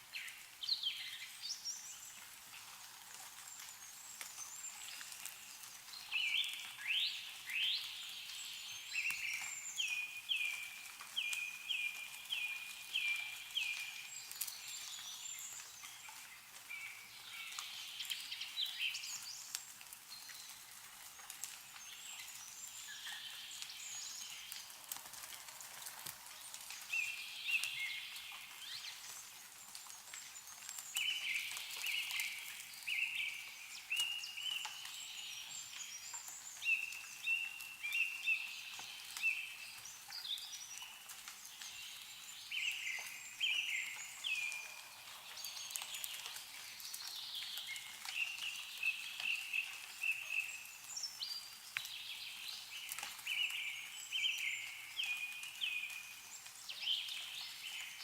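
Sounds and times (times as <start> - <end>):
meltwater dripping from trees: 0.0 - 58.0
songbirds chirping: 0.0 - 58.0.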